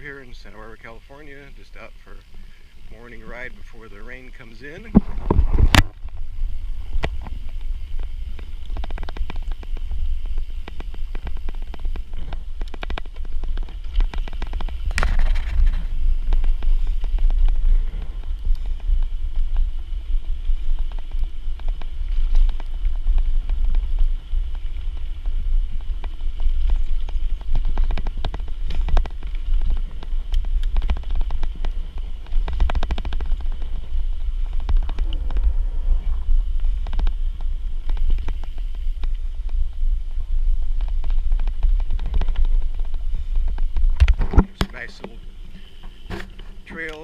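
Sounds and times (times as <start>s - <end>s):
bicycle tyres on dirt trail: 0.0s - 47.0s
wind rumbling on microphone: 0.0s - 47.0s
bike clicks and rattles: 2.2s - 47.0s.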